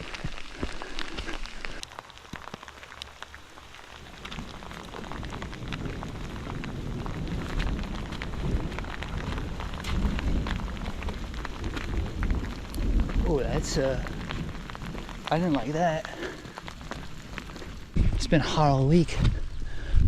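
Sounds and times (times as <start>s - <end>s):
steady rain: 0.0s - 20.0s
low rumble of thunder: 3.9s - 20.0s.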